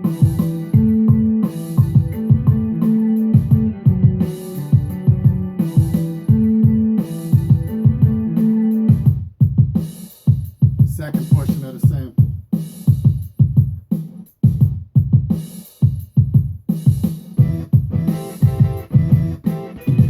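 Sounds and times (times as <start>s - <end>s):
hip-hop beat with chopped samples: 0.0s - 20.0s.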